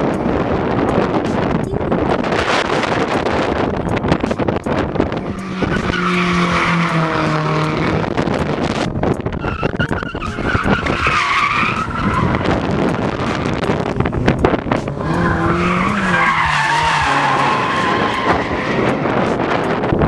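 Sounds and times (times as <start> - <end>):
car engine revving high: 0.0 - 20.0
tyres squealing: 2.2 - 19.8.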